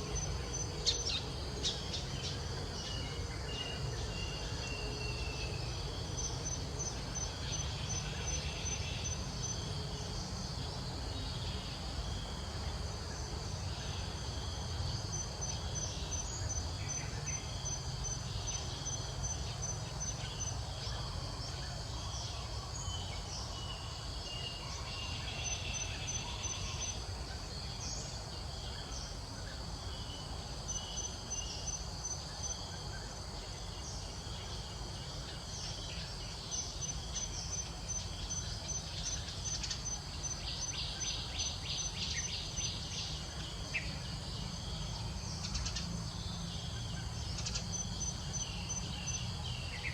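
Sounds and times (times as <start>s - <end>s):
insect chorus trilling: 0.0s - 49.9s.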